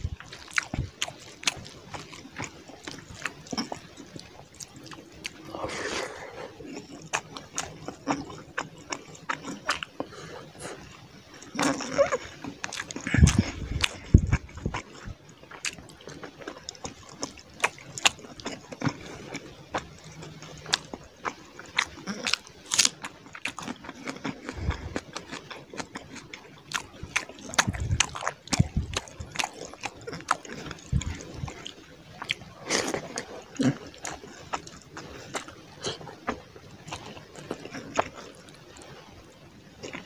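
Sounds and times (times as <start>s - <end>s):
wet chewing and lip-smacking: 0.0s - 40.0s.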